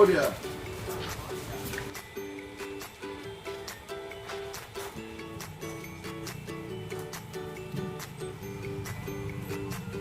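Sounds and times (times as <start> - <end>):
upbeat music with plucked guitar: 0.0 - 10.0.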